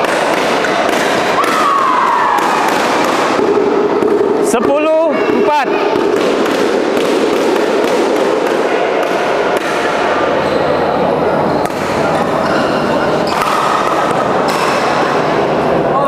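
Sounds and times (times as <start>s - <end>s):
racket striking shuttlecock: 0.0s - 10.3s, 11.6s - 15.2s
spectator chatter: 0.0s - 16.0s.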